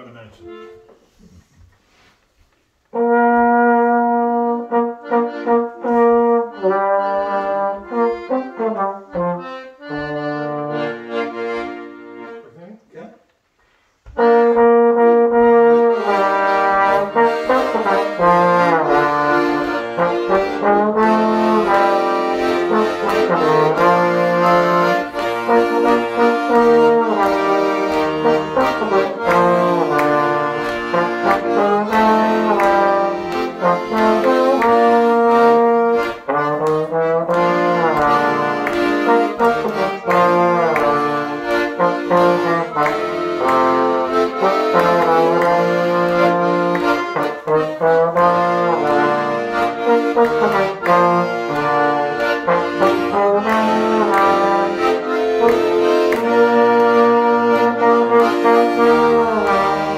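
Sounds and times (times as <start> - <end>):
accordion chords: 0.0 - 2.1, 2.8 - 59.9
trombone melody with slides: 2.9 - 12.4, 14.2 - 59.9.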